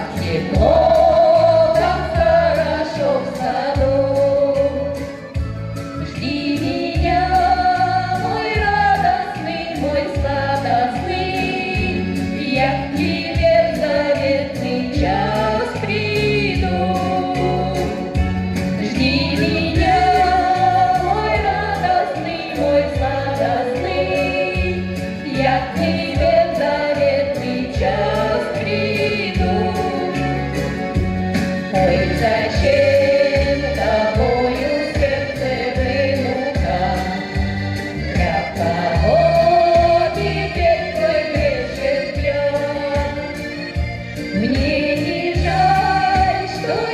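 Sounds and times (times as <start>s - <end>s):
women singing in harmony: 0.0s - 5.4s, 6.0s - 46.9s
instrumental backing with bass beat: 0.0s - 46.9s.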